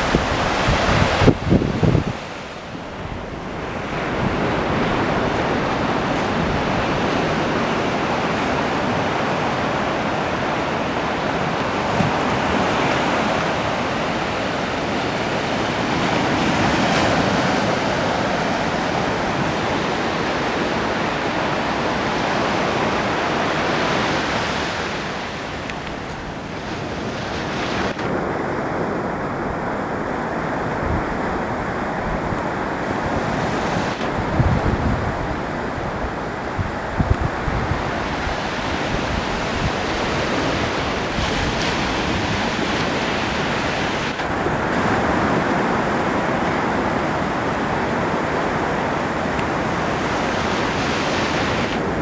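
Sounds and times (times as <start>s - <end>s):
ocean waves breaking on beach: 0.0s - 52.0s.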